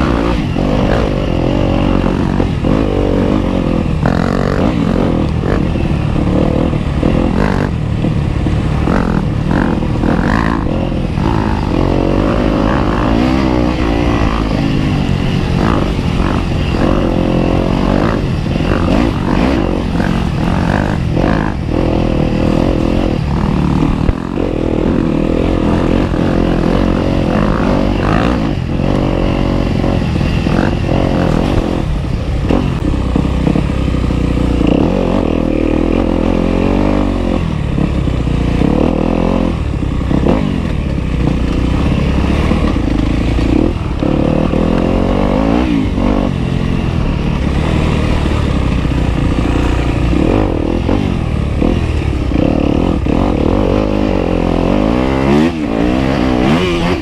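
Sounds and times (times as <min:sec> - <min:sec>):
dirt bike engine revving: 0:00.0 - 0:57.0
knocks and clatter over rough ground: 0:00.0 - 0:57.0.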